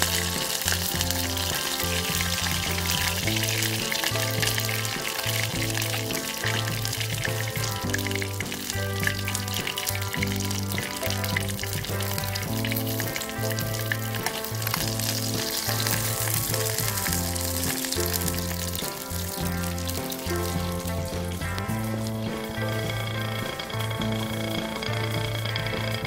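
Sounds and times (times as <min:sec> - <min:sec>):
background music with bass: 0:00.0 - 0:26.0
fish frying in oil: 0:00.0 - 0:26.0.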